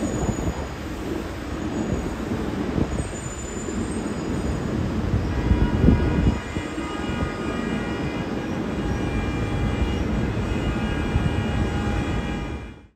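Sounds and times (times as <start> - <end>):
train wheels rumbling on rail: 0.0 - 12.9.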